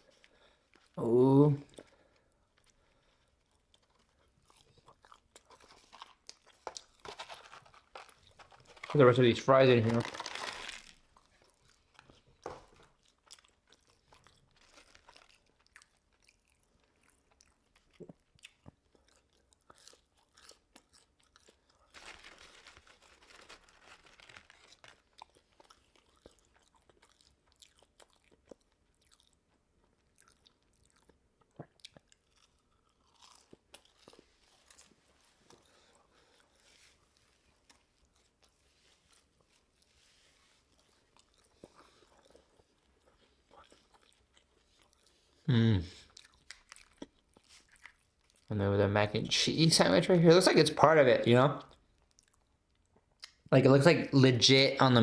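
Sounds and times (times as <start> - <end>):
person chewing and crunching food: 0.0 - 1.0, 1.6 - 48.5, 51.6 - 53.5.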